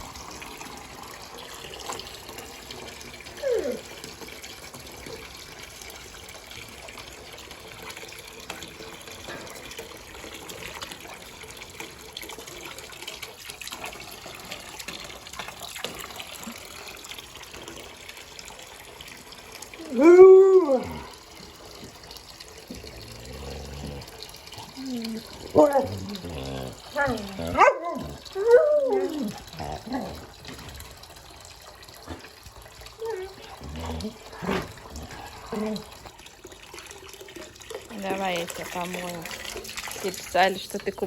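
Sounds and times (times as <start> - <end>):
water running: 0.0 - 41.0.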